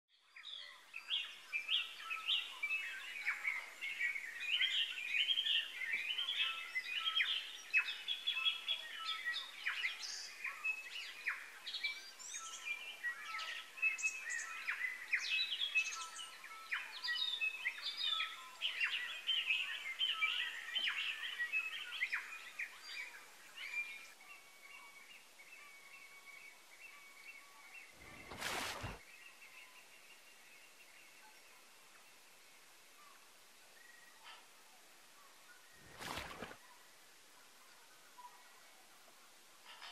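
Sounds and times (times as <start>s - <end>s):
songbirds chirping: 0.1s - 39.9s.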